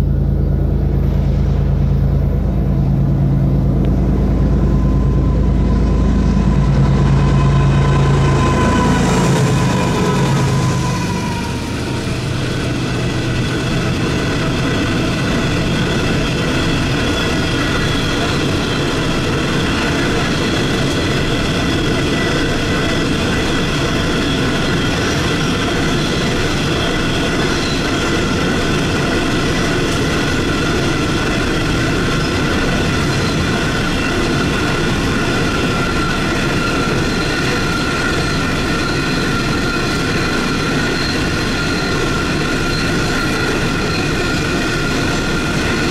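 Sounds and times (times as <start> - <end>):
steady high ringing: 0.0 - 45.9
steel wheels rumbling on rail: 0.0 - 45.9.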